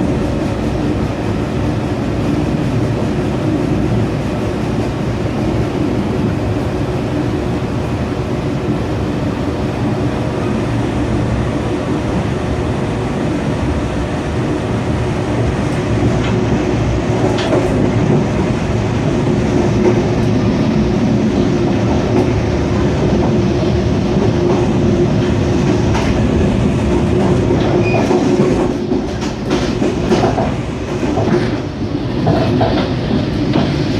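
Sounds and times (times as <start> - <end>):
train wheels rumbling on track: 0.0 - 33.9.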